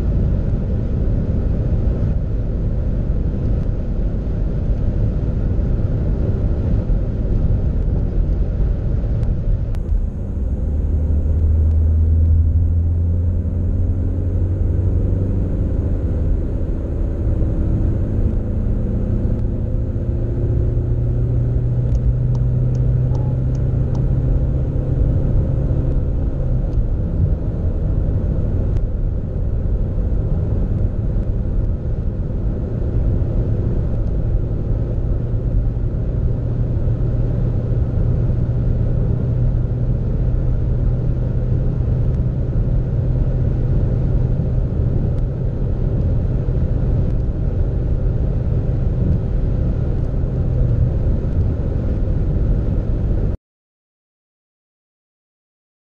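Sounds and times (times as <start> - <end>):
diesel engine accelerating: 0.0 - 53.4.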